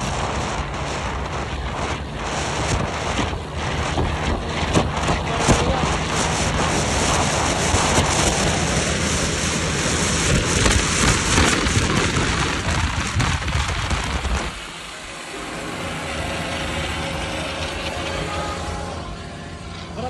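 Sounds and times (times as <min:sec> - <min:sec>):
wind rush on microphone: 0:00.0 - 0:19.0
tractor engines running: 0:00.0 - 0:20.0
vehicle road noise: 0:00.0 - 0:20.0.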